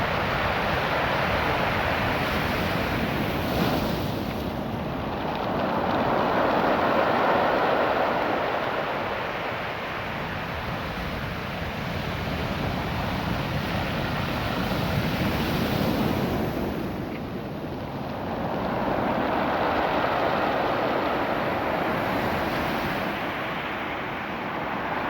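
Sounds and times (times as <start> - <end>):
surf washing over rocky beach: 0.0 - 25.0.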